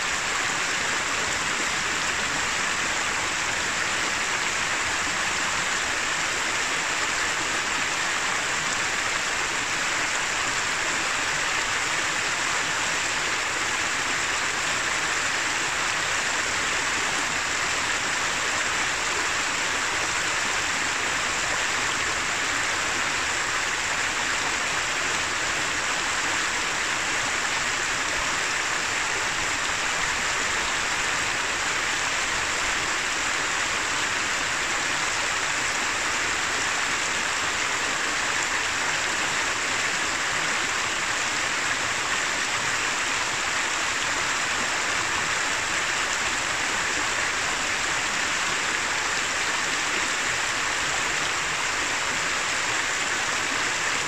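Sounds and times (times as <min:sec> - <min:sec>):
river flowing over stones: 0:00.0 - 0:54.0.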